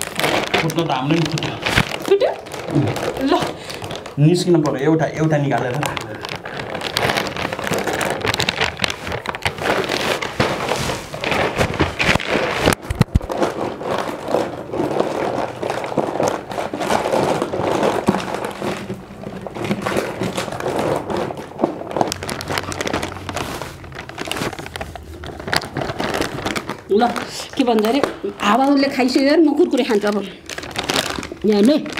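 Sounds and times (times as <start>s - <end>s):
plastic packets crinkling: 0.0s - 31.9s.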